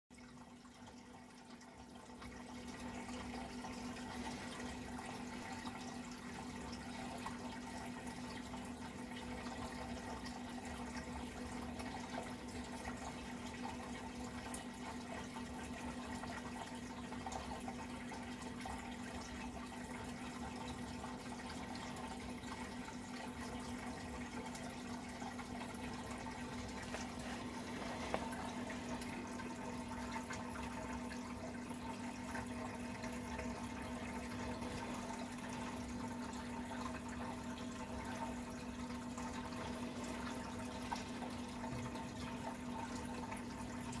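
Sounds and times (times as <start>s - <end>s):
water trickling and splashing: 0.1s - 44.0s.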